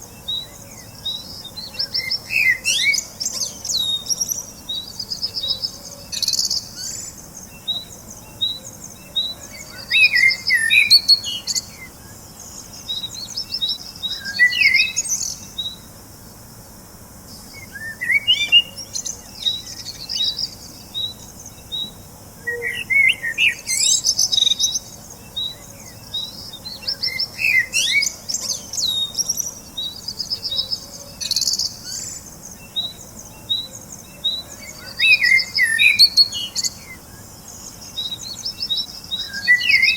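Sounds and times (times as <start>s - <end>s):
birds chirping and singing: 0.0s - 15.9s, 17.3s - 39.9s.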